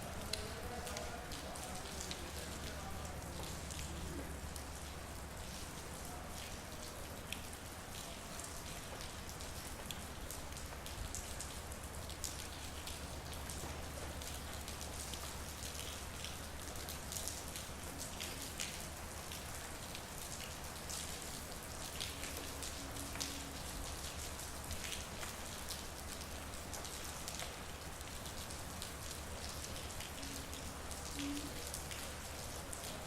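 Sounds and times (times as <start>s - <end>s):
raindrops ticking: 0.0s - 33.0s
steady rain falling: 0.0s - 33.0s.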